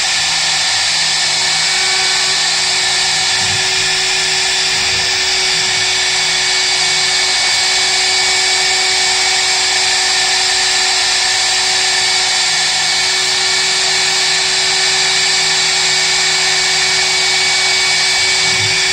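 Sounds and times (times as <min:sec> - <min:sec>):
hissing cutting noise: 0:00.0 - 0:18.9
milling spindle whine: 0:00.0 - 0:18.9.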